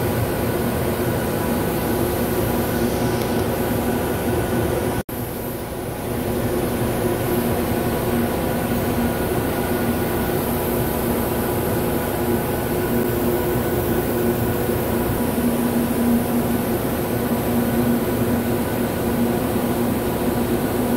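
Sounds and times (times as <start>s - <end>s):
machine shop hum: 0.0s - 20.9s.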